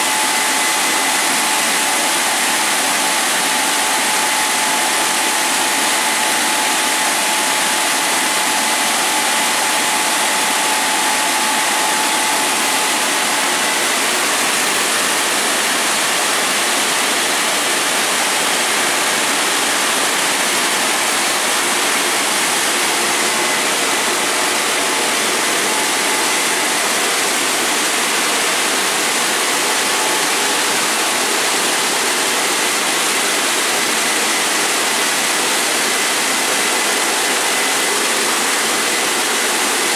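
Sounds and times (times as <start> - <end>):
car wash rushing noise: 0.0 - 39.9.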